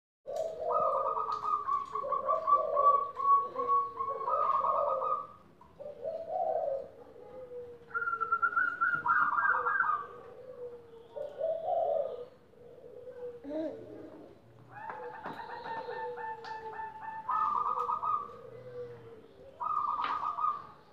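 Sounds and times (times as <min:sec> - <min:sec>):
doves cooing: 0:00.3 - 0:20.9.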